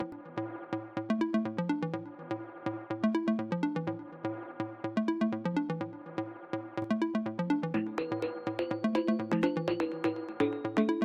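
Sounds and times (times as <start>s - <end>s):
electronic music with drum-machine beat: 0.0s - 11.0s.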